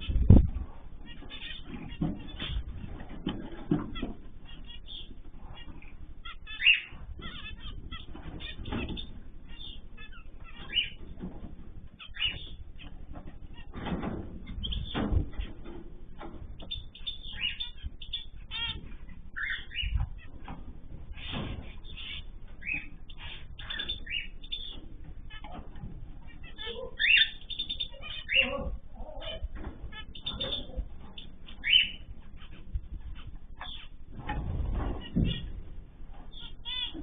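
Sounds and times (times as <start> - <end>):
small birds chirping: 0.0 - 37.0
wings fluttering: 0.0 - 37.0.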